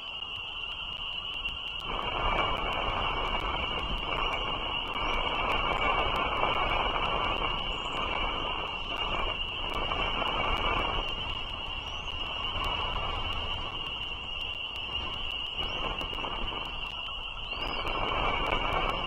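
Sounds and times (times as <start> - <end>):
faint clicks: 0.0 - 19.0
high-pitched whine: 0.0 - 19.0
steady rushing hiss: 0.0 - 19.0.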